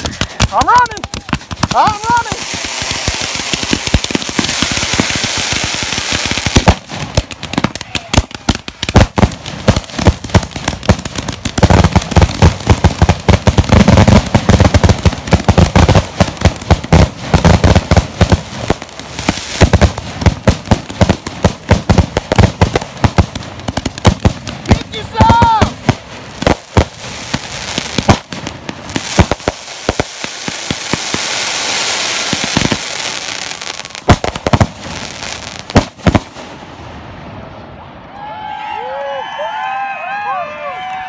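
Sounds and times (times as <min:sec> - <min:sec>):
fireworks hissing: 0:00.0 - 0:21.4, 0:22.9 - 0:36.6
fireworks cracking and banging: 0:00.0 - 0:36.7.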